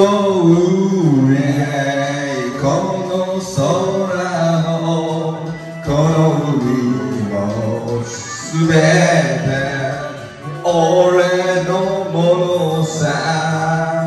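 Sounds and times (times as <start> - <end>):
karaoke backing track: 0.0 - 14.0
man singing into karaoke microphone: 0.0 - 14.0.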